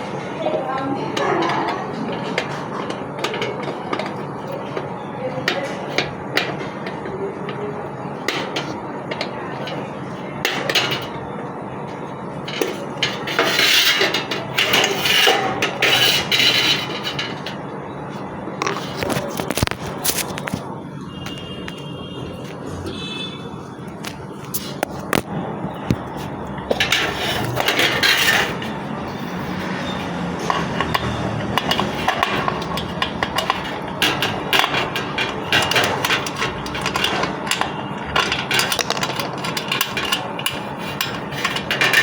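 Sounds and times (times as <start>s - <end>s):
hard parts clinking and knocking: 0.0s - 23.2s, 23.8s - 42.0s.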